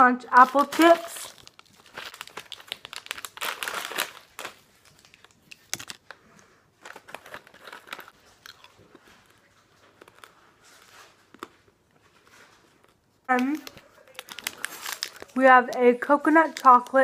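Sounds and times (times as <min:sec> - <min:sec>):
apple chips crunching: 0:00.3 - 0:06.1, 0:06.8 - 0:11.8, 0:12.4 - 0:17.0.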